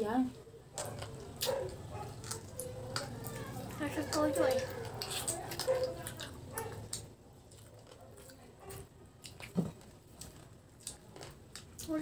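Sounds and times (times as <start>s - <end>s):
wet chewing and lip smacks: 0.7s - 12.0s.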